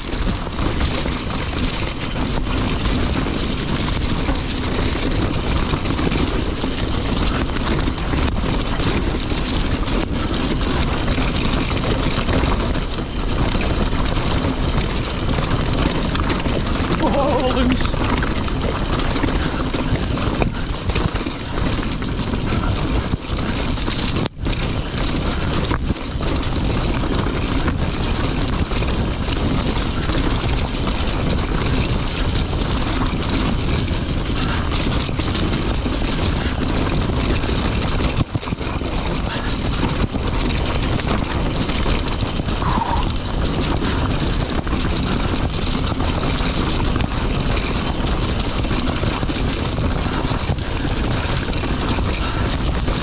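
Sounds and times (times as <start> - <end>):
mountain bike rattling over rocks: 0.0 - 53.0
wind rushing on microphone: 0.0 - 53.0.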